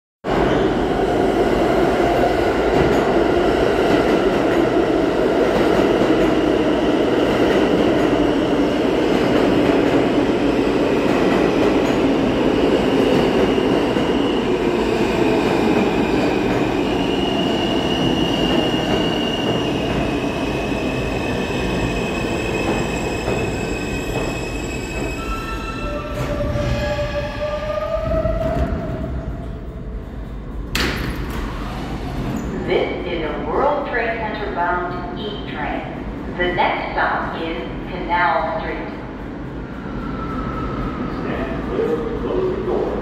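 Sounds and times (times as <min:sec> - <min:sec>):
train wheels rumbling on rail: 0:00.2 - 0:43.0.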